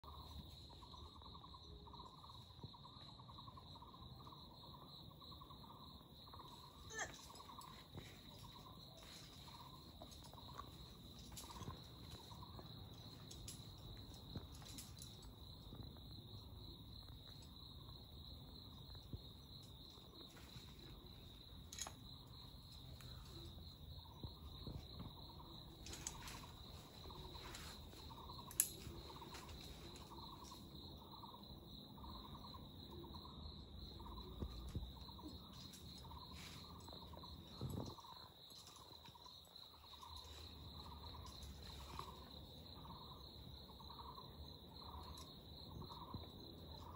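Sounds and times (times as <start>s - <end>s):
insects buzzing: 0.0s - 46.9s
insects chirping: 0.0s - 46.9s.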